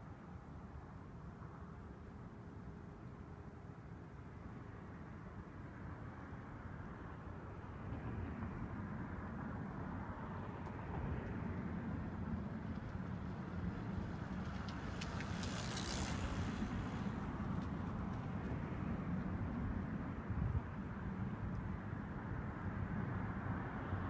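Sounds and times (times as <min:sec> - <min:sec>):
road traffic rumble: 0:04.2 - 0:24.0.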